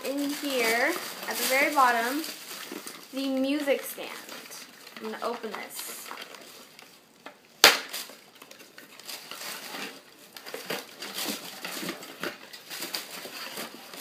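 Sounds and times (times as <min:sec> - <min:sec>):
cardboard and paper rustling: 0:00.0 - 0:07.0, 0:07.6 - 0:14.0.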